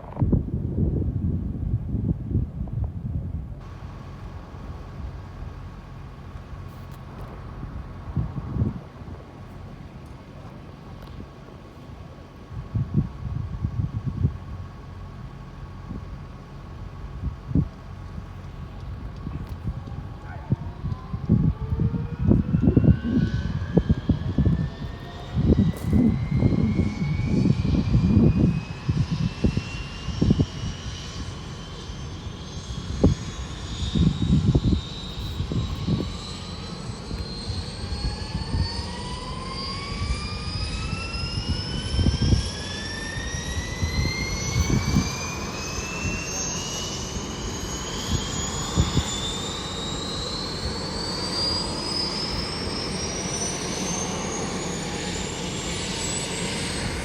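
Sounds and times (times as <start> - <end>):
gusty low rumble: 0.0 - 57.0
helicopter turbine whine rising: 3.4 - 57.0
second turbine whine rising: 3.6 - 57.0.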